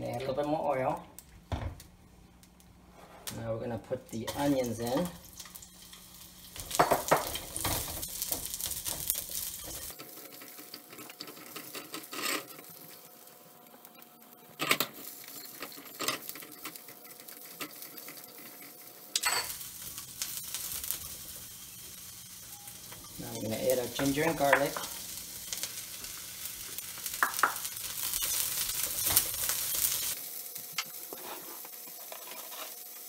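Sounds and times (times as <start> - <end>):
onions sizzling in a wok: 4.1 - 33.0.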